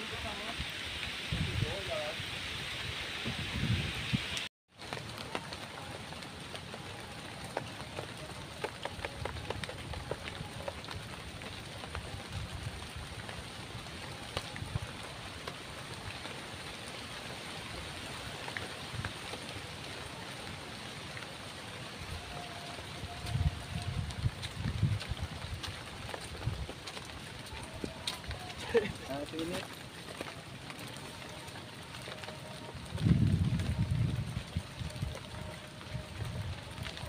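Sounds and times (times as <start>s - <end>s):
rain pattering: 0.0s - 37.0s.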